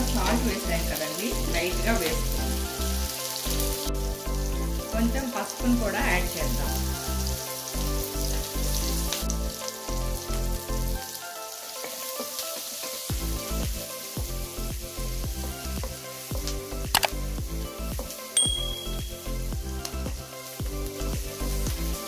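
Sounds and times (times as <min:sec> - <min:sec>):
onions sizzling in hot oil: 0:00.0 - 0:22.0
soft background music: 0:00.0 - 0:22.0.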